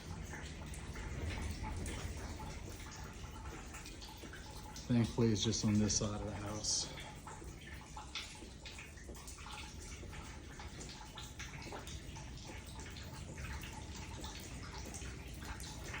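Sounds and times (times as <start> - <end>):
water dripping and splashing: 0.0 - 16.0.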